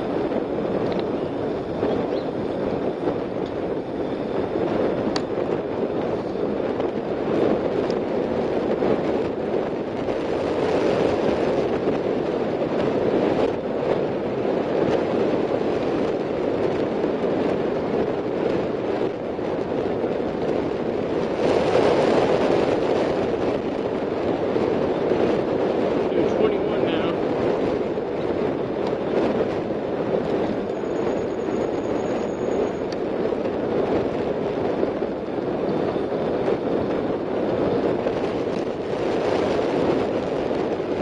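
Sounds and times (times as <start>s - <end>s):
bicycle tyres rolling on pavement: 0.0s - 41.0s
wind rushing over microphone: 0.0s - 41.0s.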